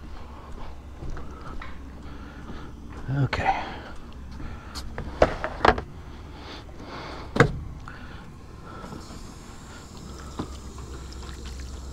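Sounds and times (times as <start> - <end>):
low steady rumble: 0.0 - 11.9.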